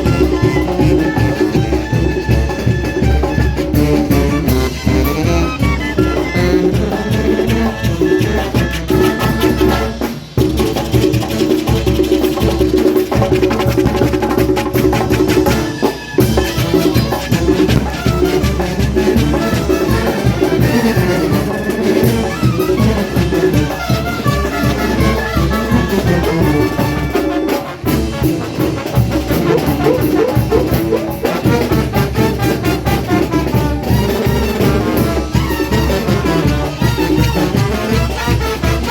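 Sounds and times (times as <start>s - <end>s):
steady drum beat: 0.0s - 38.9s
trumpets and trombones: 0.0s - 38.9s.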